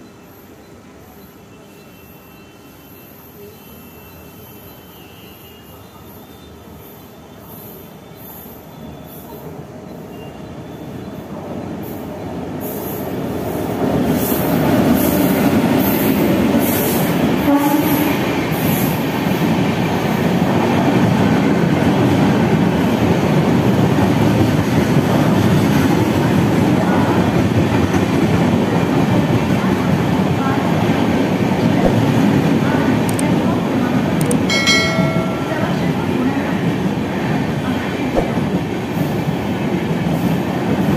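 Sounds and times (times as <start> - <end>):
train passing at speed: 0.0 - 40.9.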